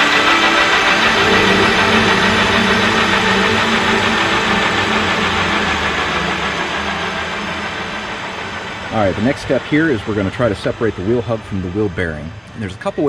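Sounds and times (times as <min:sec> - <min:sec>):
gritty background music: 0:00.1 - 0:11.2.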